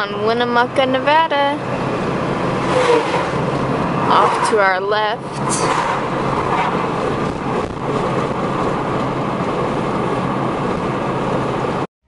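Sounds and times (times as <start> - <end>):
vehicle road noise: 0.0 - 11.9.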